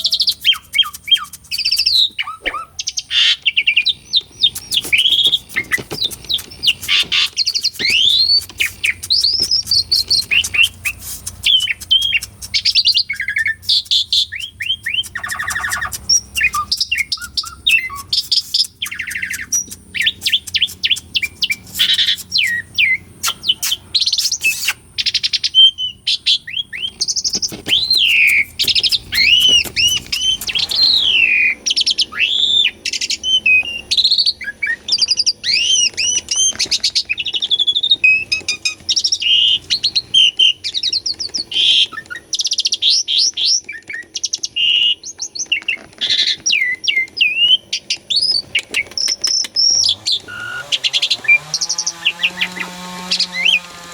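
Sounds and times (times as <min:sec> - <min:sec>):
starling singing: 0:00.0 - 0:44.0, 0:45.5 - 0:53.9.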